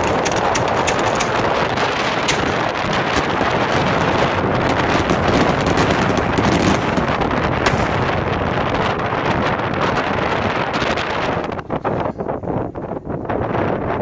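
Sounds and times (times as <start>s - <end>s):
fireworks cracking and popping: 0.0s - 11.5s
strong wind buffeting microphone: 0.0s - 14.0s.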